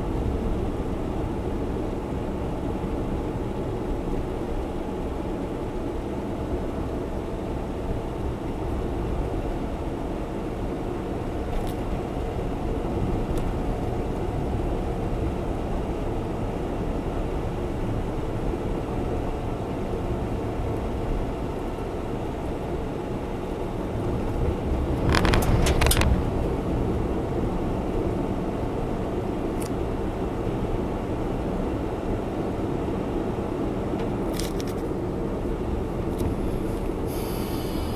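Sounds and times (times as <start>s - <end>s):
car road and engine noise: 0.0s - 37.9s.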